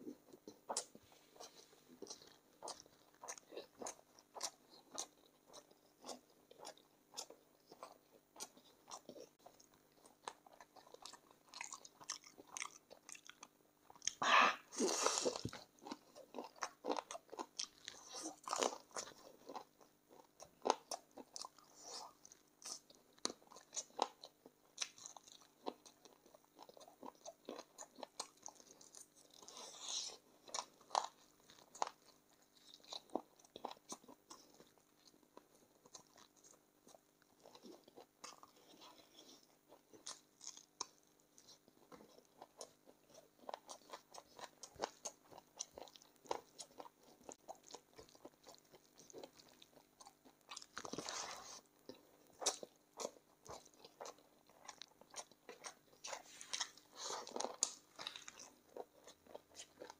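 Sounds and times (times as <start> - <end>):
wet crunching and chewing: 0.0 - 59.9.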